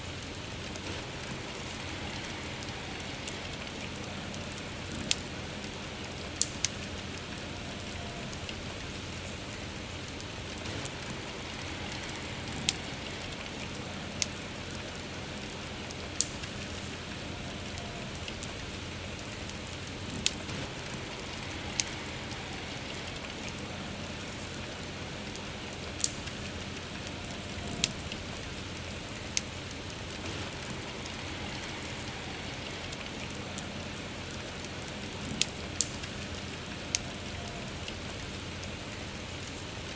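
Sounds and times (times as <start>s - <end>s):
campfire crackling pops: 0.0s - 39.9s
soft rainfall: 0.0s - 39.9s.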